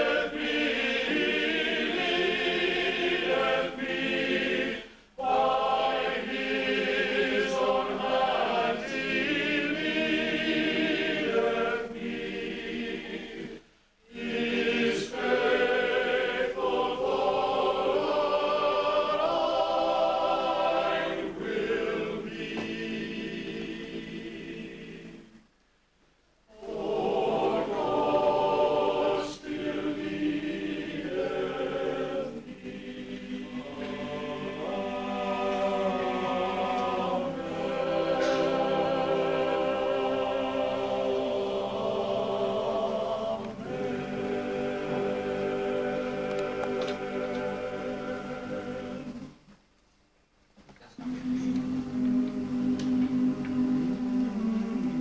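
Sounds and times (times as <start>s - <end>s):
choir singing a hymn: 0.0s - 25.5s, 26.5s - 49.4s, 51.0s - 55.0s.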